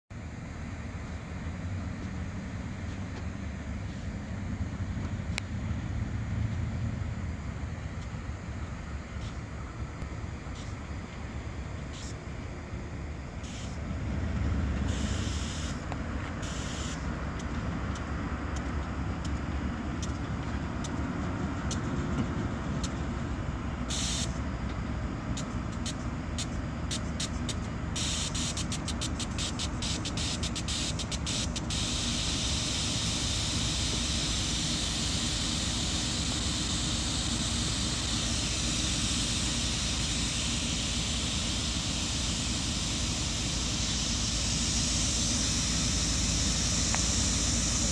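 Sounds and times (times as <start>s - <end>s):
diesel locomotive engine rumbling: 0.0s - 47.9s
steady hiss: 0.2s - 47.9s.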